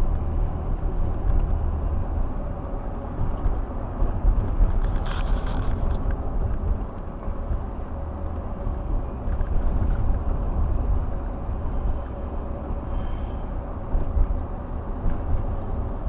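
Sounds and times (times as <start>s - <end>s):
van road and engine rumble: 0.0s - 16.0s.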